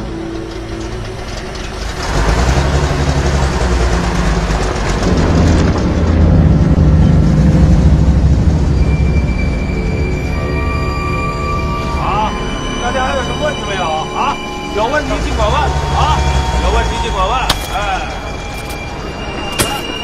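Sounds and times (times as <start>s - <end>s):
truck engine starting and running: 0.0s - 20.0s.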